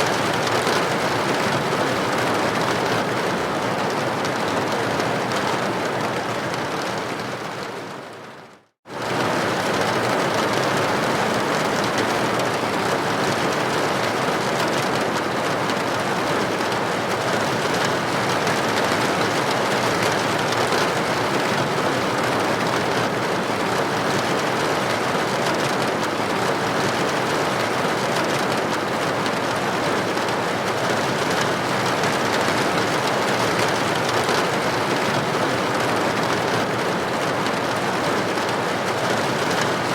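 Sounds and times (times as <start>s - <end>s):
rain against a window: 0.0s - 39.9s.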